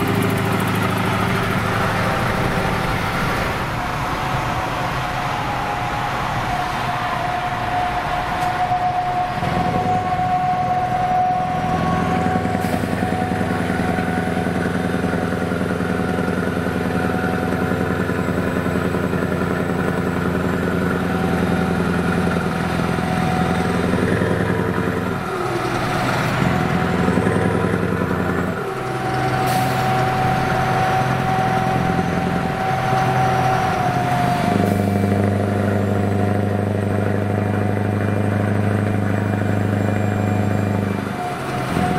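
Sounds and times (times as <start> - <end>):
road and wind noise: 0.0 - 41.9
truck engine running: 0.0 - 41.9.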